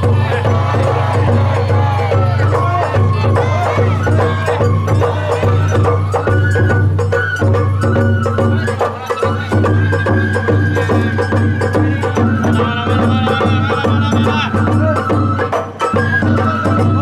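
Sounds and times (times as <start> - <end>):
bamboo flute melody: 0.0 - 17.0
taiko drums beating: 0.0 - 17.0.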